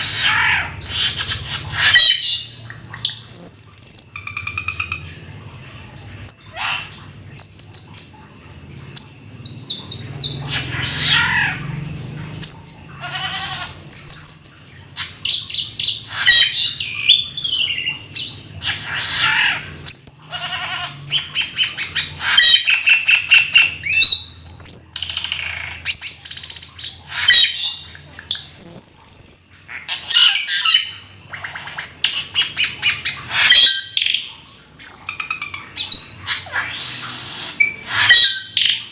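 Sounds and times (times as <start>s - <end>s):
starling singing: 0.0s - 5.2s, 9.0s - 38.9s.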